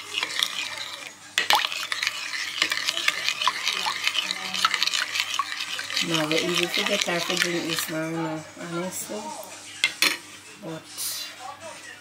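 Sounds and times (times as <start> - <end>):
utensil stirring and clinking: 0.0 - 10.2.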